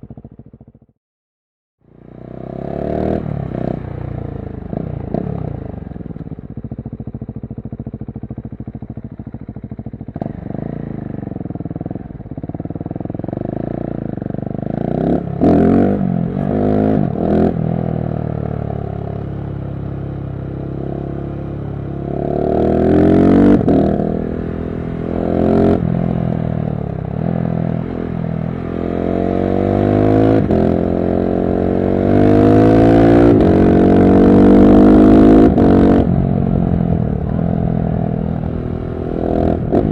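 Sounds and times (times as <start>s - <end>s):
motorcycle engine revving: 1.9s - 39.9s.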